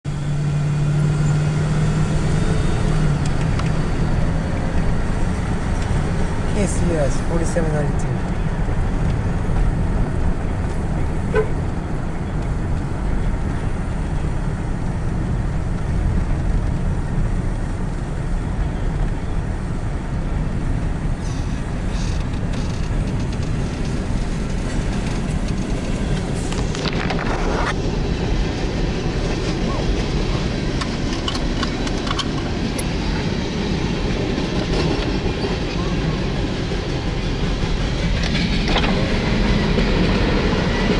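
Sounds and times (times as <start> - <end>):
road noise inside moving car: 0.0 - 40.9
freight train rolling: 0.1 - 40.9.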